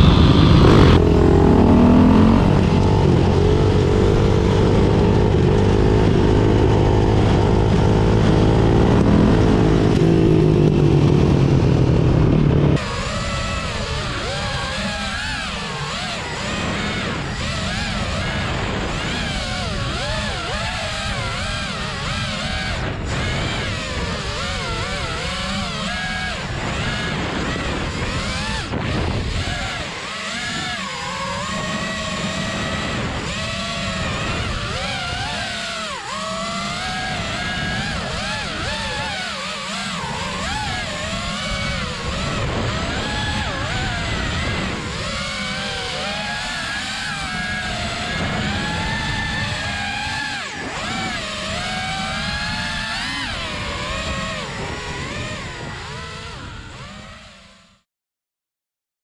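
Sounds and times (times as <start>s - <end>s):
wind on microphone: 0.0s - 57.5s
motorcycle engine revving: 0.0s - 57.8s.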